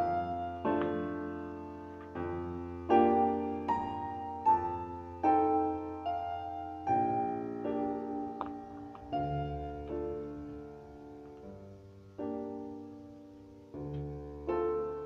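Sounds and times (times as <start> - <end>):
solo piano chords: 0.0 - 15.0.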